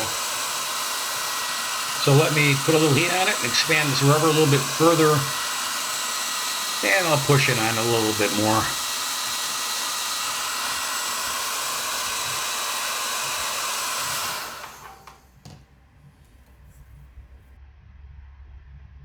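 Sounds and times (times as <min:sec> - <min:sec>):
electric hot-air blower running: 0:00.0 - 0:15.6.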